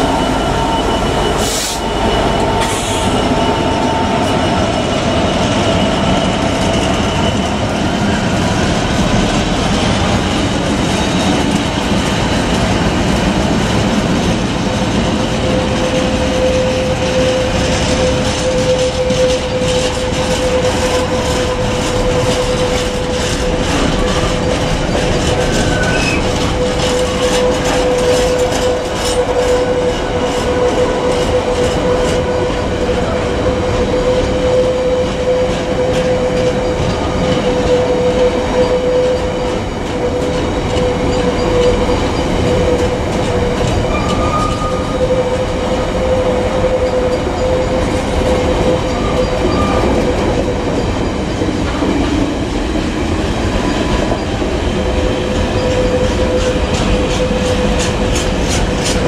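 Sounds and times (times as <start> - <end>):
train wheels rumbling on rails: 0.0 - 59.0
wheels clacking over rail joints: 2.0 - 59.0.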